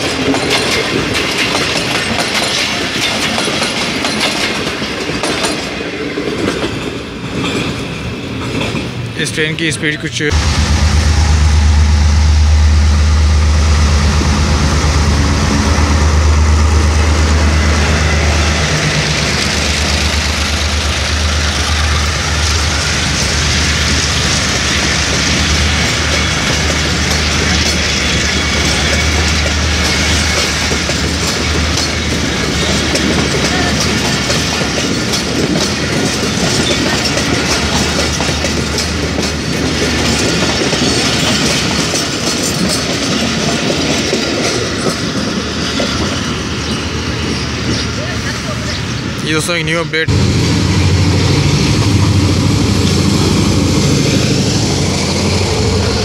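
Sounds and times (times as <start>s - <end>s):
train wheels clickety-clack: 0.0s - 11.1s, 14.2s - 49.2s
diesel locomotive engine drone: 0.0s - 56.0s.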